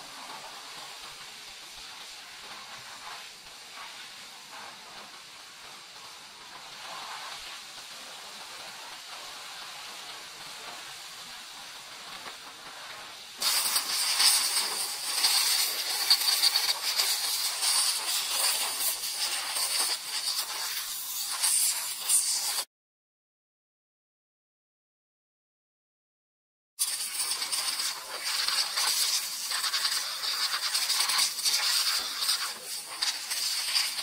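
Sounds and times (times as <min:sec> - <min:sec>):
pressure washer spray hissing: 0:00.0 - 0:22.7, 0:26.8 - 0:34.0.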